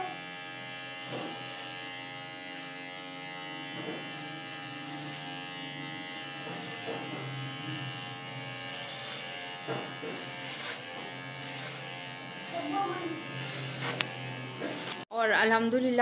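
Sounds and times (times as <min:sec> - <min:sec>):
electric hair clipper buzzing: 0:00.0 - 0:15.1.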